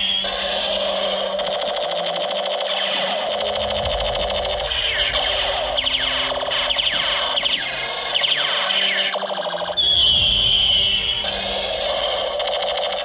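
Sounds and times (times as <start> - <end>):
toy gun pulsing buzz: 0.0 - 13.0
toy gun zaps sweeping downward: 0.0 - 13.0.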